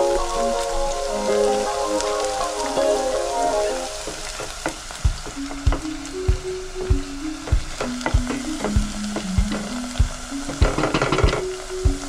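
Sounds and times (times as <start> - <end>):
background music with steady beat: 0.0 - 12.0
food sizzling in a pot: 0.0 - 12.0.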